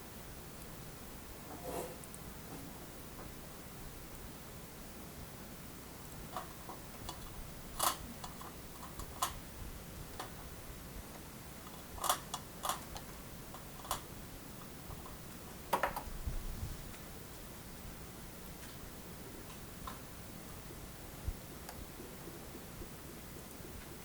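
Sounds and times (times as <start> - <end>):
low room hiss: 0.0 - 24.0.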